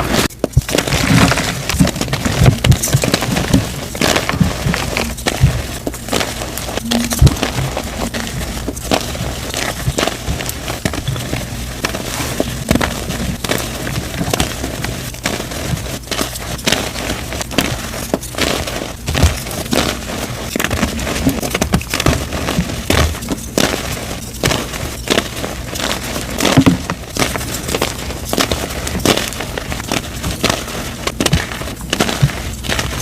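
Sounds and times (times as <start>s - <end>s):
chalk crunching and crackling: 0.0s - 33.0s.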